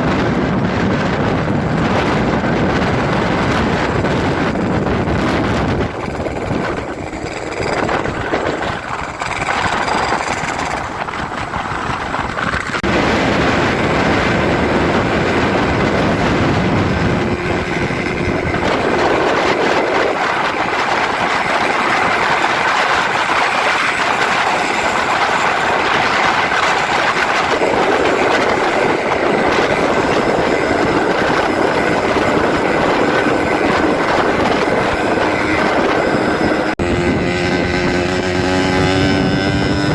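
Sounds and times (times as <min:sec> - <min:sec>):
loud motorcycle engine: 0:00.0 - 0:39.9.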